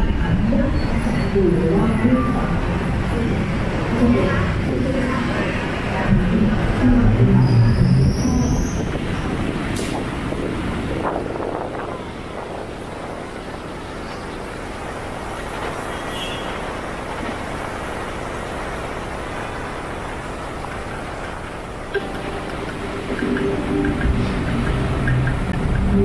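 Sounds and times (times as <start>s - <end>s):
city road traffic: 0.0s - 26.0s.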